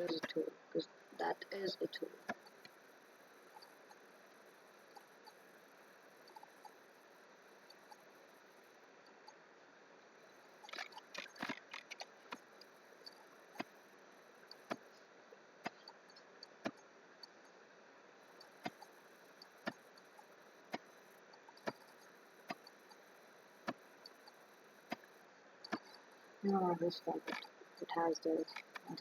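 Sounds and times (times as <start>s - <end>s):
low steady hiss: 0.0s - 29.0s.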